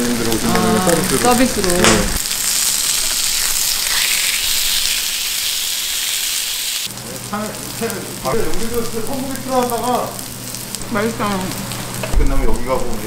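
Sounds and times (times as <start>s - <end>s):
meat sizzling on a grill plate: 0.0s - 13.0s.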